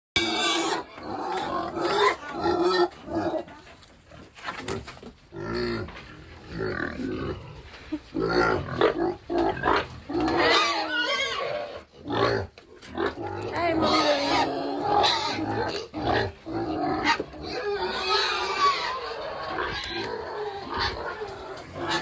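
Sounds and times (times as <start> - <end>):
pigs grunting and squealing: 0.2 - 22.0.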